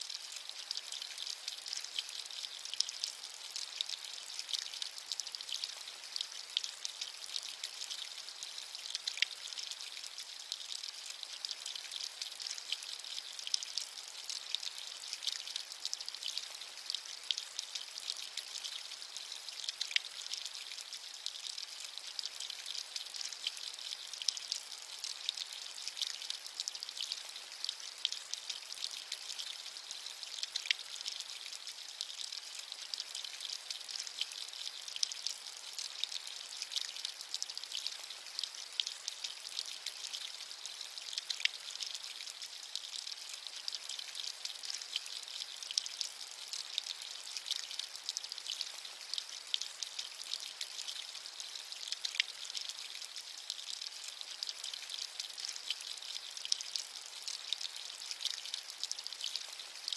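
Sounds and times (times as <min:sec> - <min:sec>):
steady rain hissing: 0:00.0 - 0:54.8.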